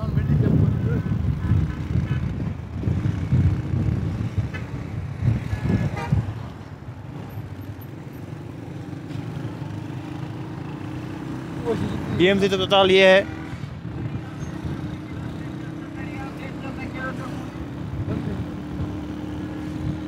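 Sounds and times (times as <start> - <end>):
motor vehicle engine: 0.0 - 20.0
street traffic: 0.0 - 20.0.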